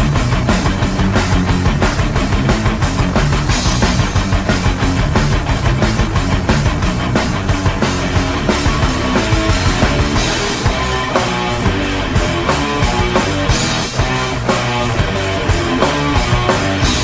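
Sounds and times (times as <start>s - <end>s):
guitar: 0.0s - 17.0s
rock music: 0.0s - 17.0s
steady drum beat: 0.0s - 17.0s.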